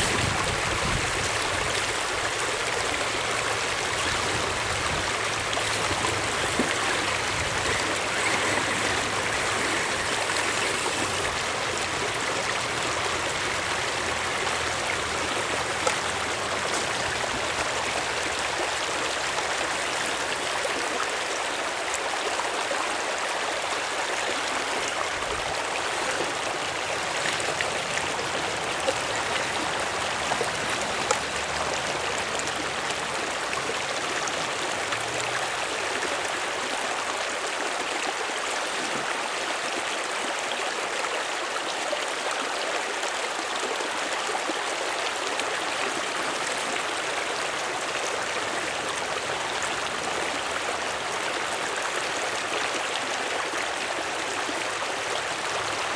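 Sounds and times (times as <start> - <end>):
water rushing over stones: 0.0 - 55.9.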